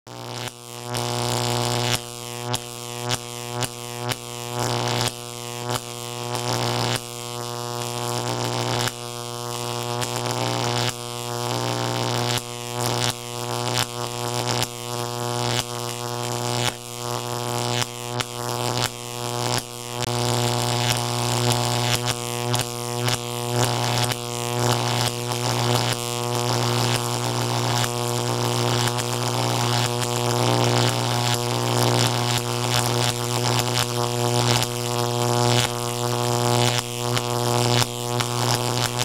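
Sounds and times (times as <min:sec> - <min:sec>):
crackling electric zaps: 0:00.3 - 0:39.0.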